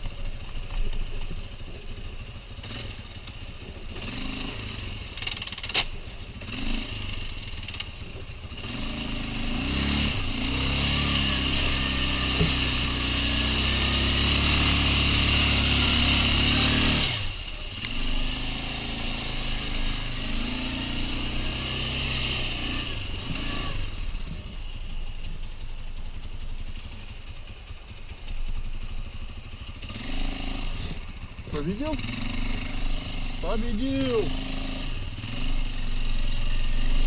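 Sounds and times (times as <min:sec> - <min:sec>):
quad bike engine revving: 0:02.0 - 0:24.5, 0:29.6 - 0:37.0.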